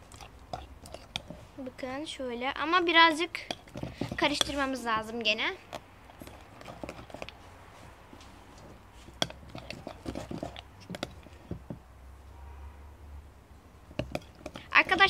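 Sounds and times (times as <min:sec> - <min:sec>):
slime squelching: 0:00.0 - 0:11.8, 0:13.8 - 0:15.0.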